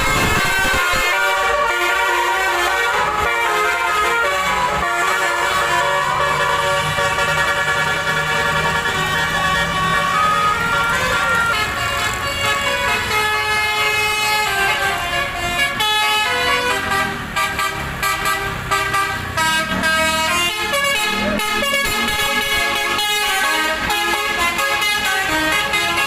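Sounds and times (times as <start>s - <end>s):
bus engines running: 0.0s - 26.0s
multi-tone air horns playing tunes: 0.0s - 26.0s.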